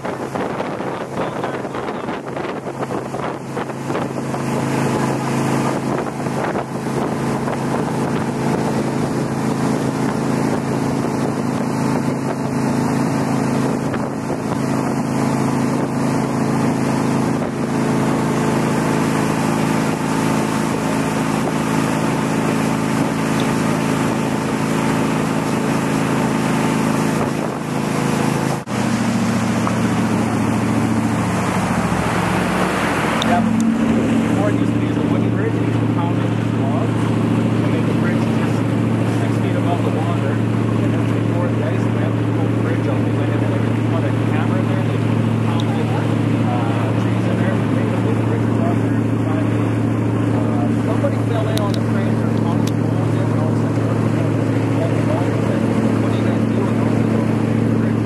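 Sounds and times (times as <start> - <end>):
boat engine hum: 0.0 - 58.0
rushing water: 0.0 - 58.0
wind on microphone: 0.0 - 58.0.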